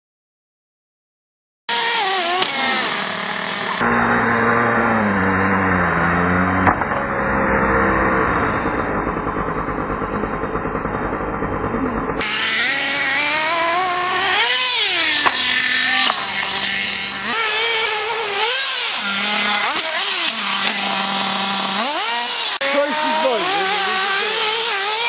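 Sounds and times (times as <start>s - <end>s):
small engines revving: 1.7s - 25.0s.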